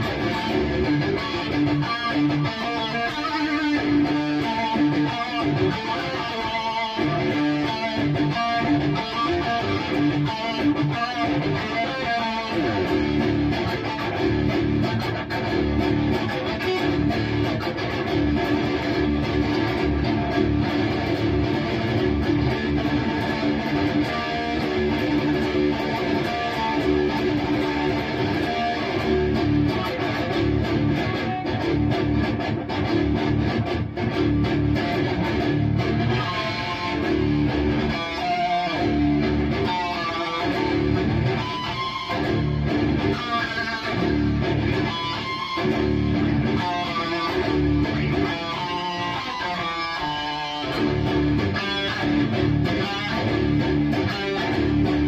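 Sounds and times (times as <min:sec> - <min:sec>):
distorted electric guitar riffing: 0:00.0 - 0:55.0
high guitar single notes: 0:00.0 - 0:55.0.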